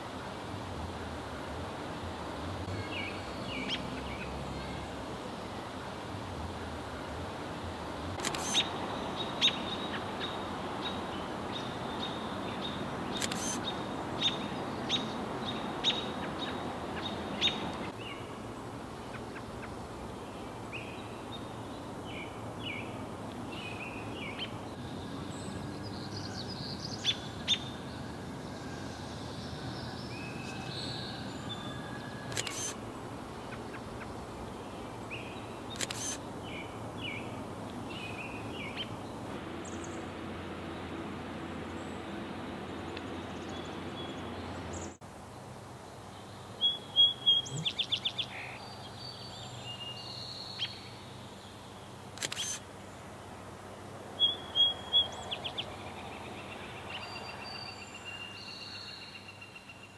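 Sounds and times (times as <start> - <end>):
steady background noise: 0.0 - 59.9
bird chirping song: 2.6 - 5.0, 8.2 - 18.4, 19.1 - 40.8, 41.5 - 45.0, 46.0 - 52.6, 54.2 - 59.9.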